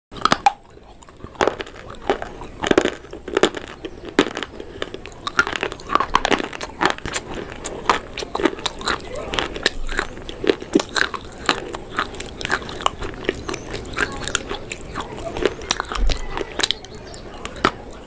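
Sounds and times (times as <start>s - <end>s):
dried clay crunching: 0.1s - 18.0s.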